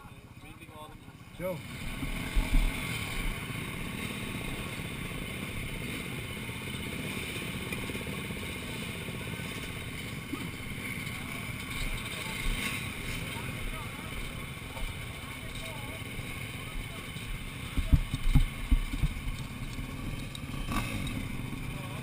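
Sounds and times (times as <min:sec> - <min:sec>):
motorbike engines idling: 0:00.0 - 0:22.0.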